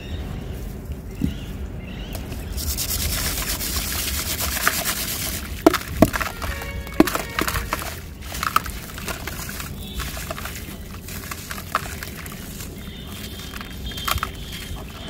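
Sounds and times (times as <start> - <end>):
crunchy crackles: 0.0 - 15.0
wet sand squishing between hands: 0.0 - 15.0
water sloshing: 2.3 - 15.0.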